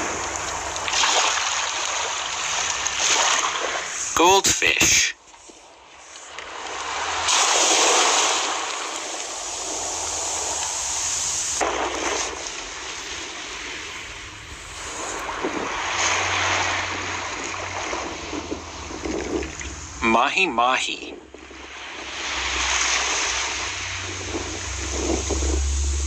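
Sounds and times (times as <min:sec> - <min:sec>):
rushing water roar: 0:00.0 - 0:26.0.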